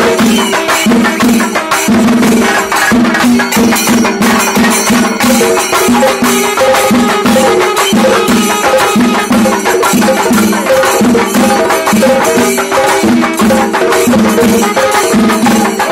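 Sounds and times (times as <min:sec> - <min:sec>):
drum ensemble fast rhythm: 0:00.0 - 0:15.9
hand cymbals ringing: 0:00.0 - 0:15.9.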